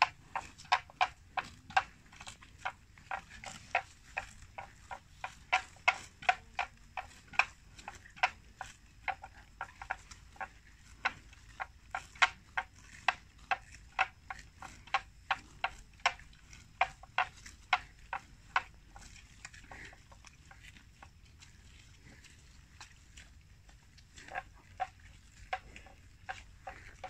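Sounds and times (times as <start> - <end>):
buffalo tearing grass: 0.0 - 27.0.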